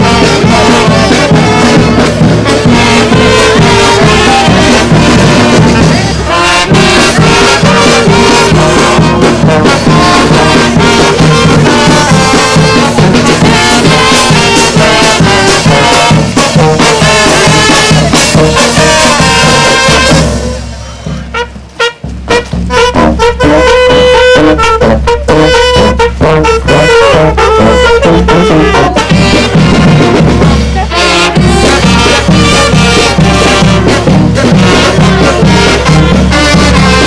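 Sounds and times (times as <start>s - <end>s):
bass drum thumps: 0.0s - 37.0s
brass band playing: 0.0s - 37.0s
snare drum: 0.0s - 37.0s.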